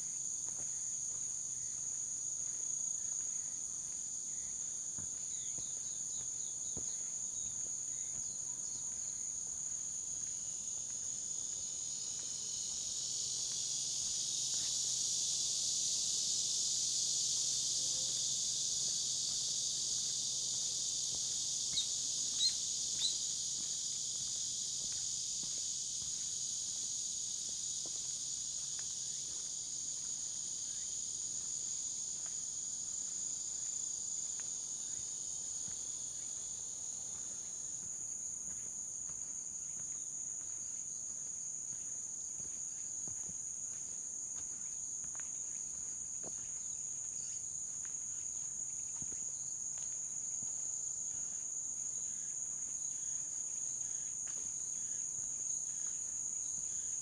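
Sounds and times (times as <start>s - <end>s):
high-pitched insect chorus: 0.0s - 57.0s
footsteps on a trail: 0.4s - 15.0s, 18.1s - 57.0s.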